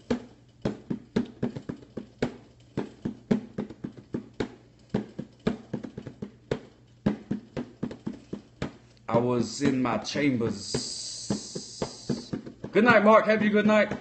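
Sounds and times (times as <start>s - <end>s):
hand drums struck: 0.0s - 8.8s, 9.4s - 14.0s.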